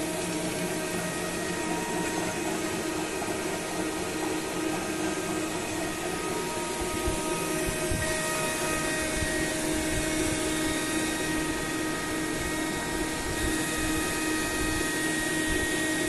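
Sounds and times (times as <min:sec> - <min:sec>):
grinding machine drone: 0:00.0 - 0:16.0
whining machine tones: 0:00.0 - 0:16.0.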